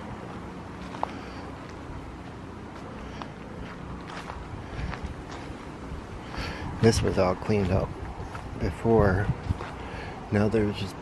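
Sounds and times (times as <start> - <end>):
footsteps walking: 0.0 - 9.9
low outdoor rumble: 0.0 - 11.0.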